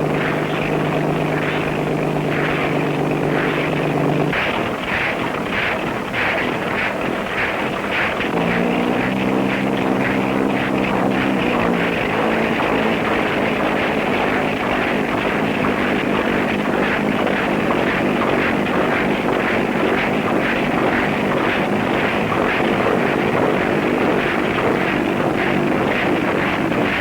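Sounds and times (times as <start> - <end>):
engine and propeller noise: 0.0 - 27.0.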